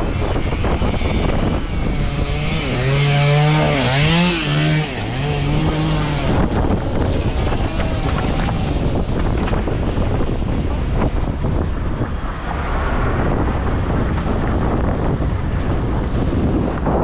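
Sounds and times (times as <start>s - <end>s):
moving car rush: 0.0s - 17.0s
wind buffeting microphone: 0.0s - 17.0s.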